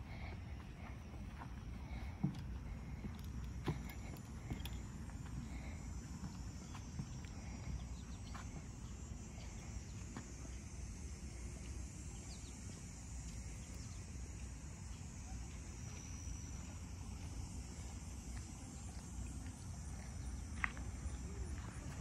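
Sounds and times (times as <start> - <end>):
high insect-like hiss: 0.0 - 22.0.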